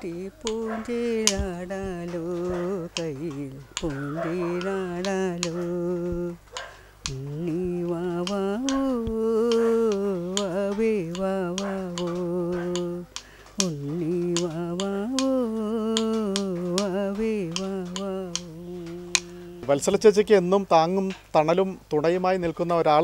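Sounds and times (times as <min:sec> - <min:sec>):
sharp clicks: 0:00.0 - 0:20.0
woman singing unaccompanied: 0:00.0 - 0:20.4.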